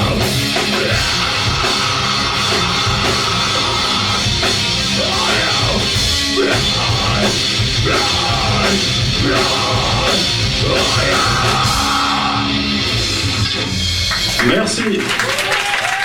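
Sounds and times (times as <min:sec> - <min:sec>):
drum kit: 0:00.0 - 0:15.0
live rock band playing: 0:00.0 - 0:15.0.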